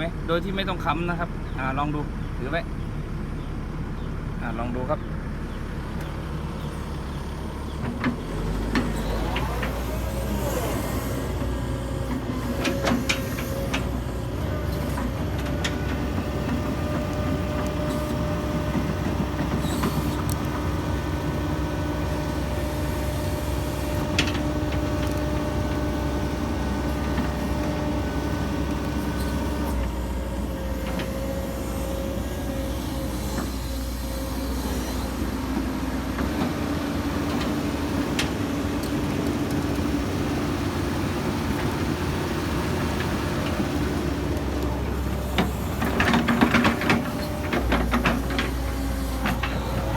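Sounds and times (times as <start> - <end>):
excavator diesel engine: 0.0 - 49.9.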